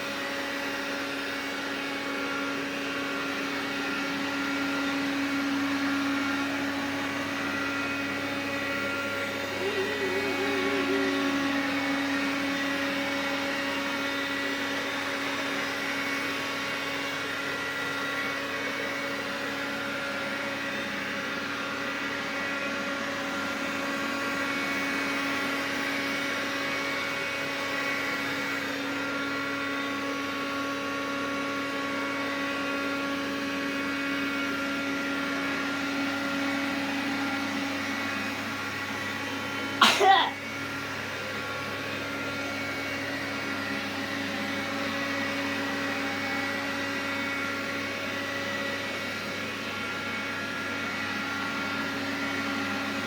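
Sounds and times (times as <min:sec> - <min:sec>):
vacuum cleaner running: 0:00.0 - 0:53.0.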